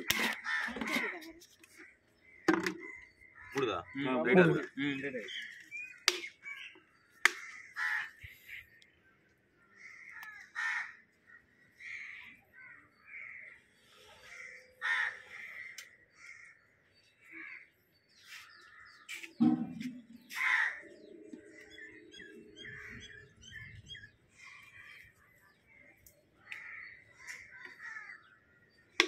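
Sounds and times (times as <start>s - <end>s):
crows cawing: 0.0s - 4.7s, 5.8s - 8.8s, 9.6s - 19.1s, 19.9s - 29.0s.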